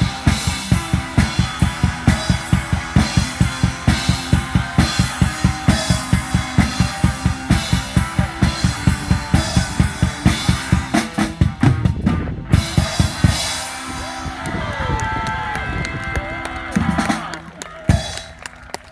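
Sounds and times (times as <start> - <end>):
drum kit playing steady beat: 0.0 - 18.4.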